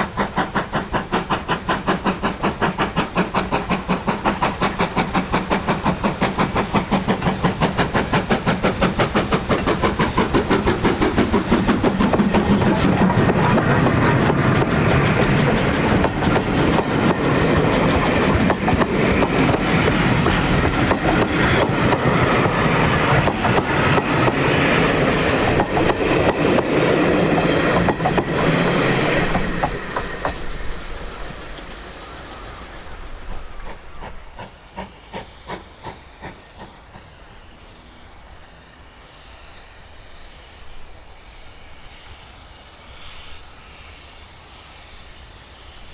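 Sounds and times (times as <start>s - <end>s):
train passing: 0.0s - 45.9s.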